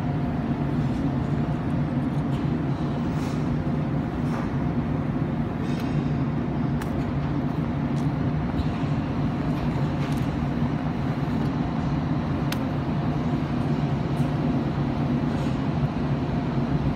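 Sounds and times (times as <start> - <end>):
engine running steadily: 0.0 - 16.9.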